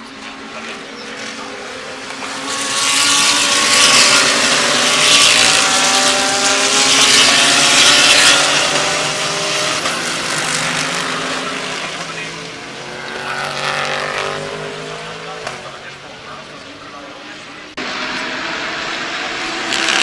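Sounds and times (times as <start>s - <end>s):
race cars passing at speed: 0.0s - 20.0s.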